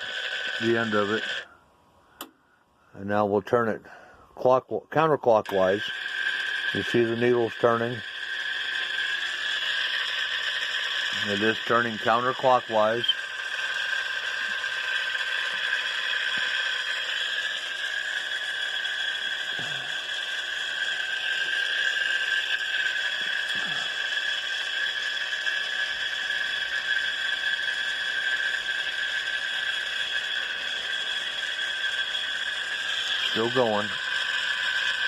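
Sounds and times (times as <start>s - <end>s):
antenna rotator motor whirring: 0.0s - 2.8s, 5.3s - 35.0s.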